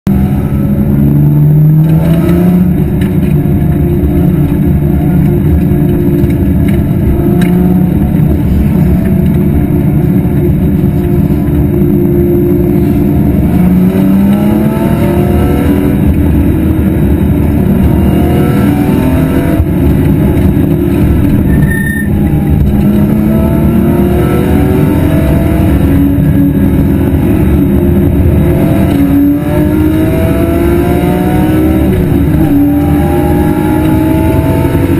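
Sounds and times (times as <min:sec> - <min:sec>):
race car engine accelerating: 0:00.1 - 0:34.9
wind and road noise: 0:00.1 - 0:34.9.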